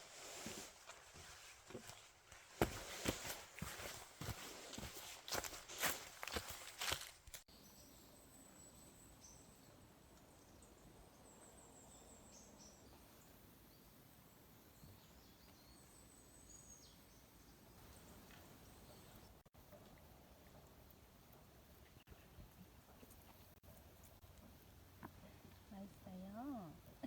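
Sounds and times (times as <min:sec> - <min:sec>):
low outdoor background: 0:00.0 - 0:27.0.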